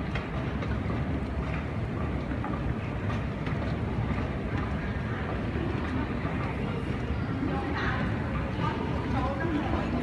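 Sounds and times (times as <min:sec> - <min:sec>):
airport terminal rumble: 0:00.0 - 0:10.0.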